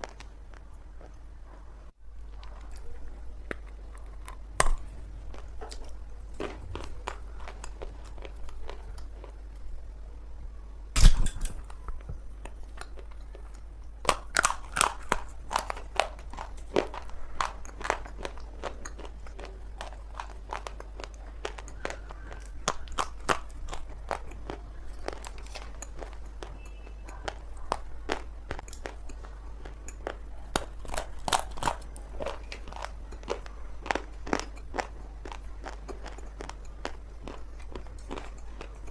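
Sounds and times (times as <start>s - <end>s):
chewing dry clay crunches: 0.0s - 9.9s, 11.0s - 38.9s
steady low hum: 0.0s - 38.9s.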